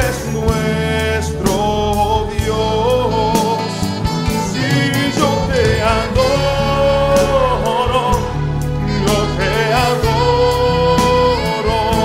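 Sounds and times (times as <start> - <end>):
person singing: 0.0 - 12.0
worship song with full band: 0.0 - 12.0
steady drum beat: 0.1 - 11.7.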